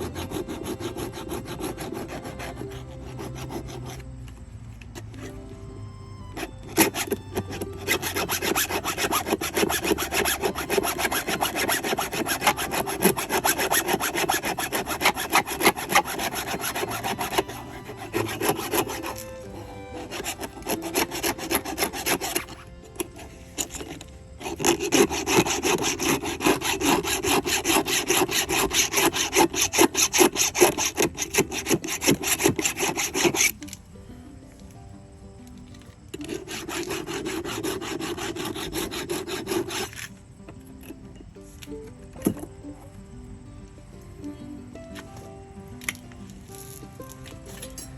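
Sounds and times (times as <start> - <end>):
hand file sharpening chainsaw chain: 0.0 - 5.4, 6.3 - 33.8, 36.0 - 40.2, 45.8 - 47.9.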